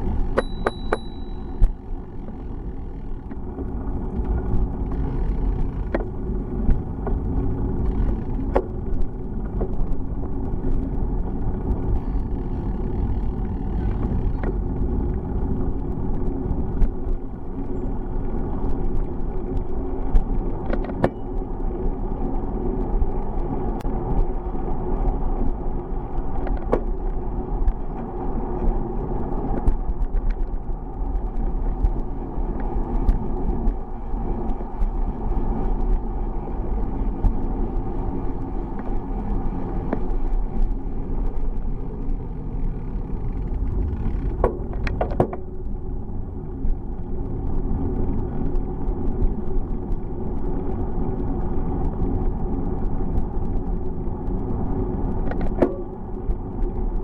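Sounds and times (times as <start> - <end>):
bicycle rumble and rattle: 0.0 - 57.0.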